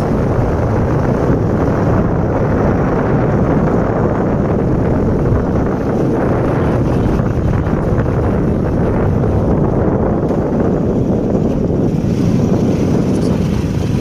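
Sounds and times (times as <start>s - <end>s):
motorbike engine and road noise: 0.0s - 14.0s
wind buffeting microphone: 0.0s - 14.0s.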